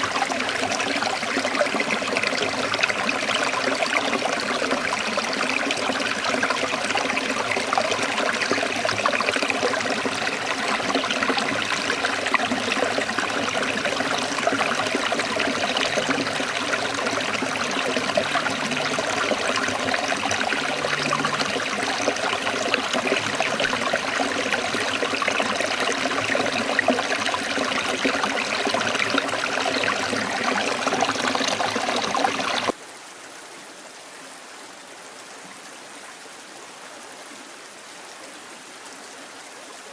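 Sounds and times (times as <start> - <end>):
water flowing and trickling: 0.0 - 32.8.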